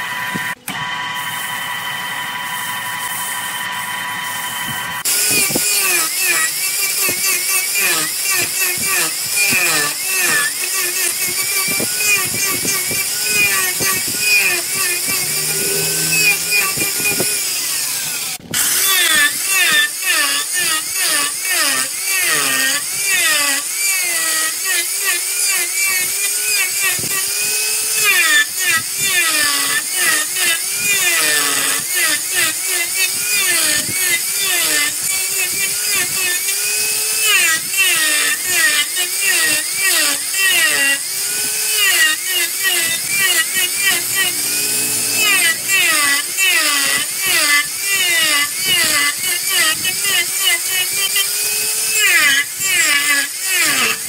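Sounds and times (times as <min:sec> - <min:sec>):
angle grinder cutting wood: 0:00.0 - 0:54.0.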